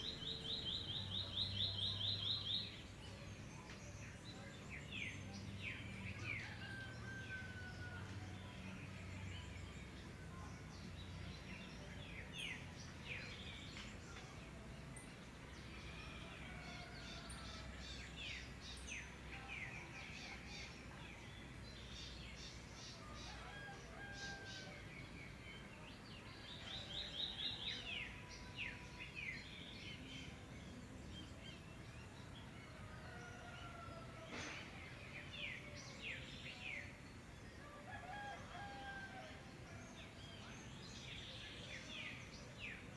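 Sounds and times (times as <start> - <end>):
wild birds chirping: 0.0 - 42.9.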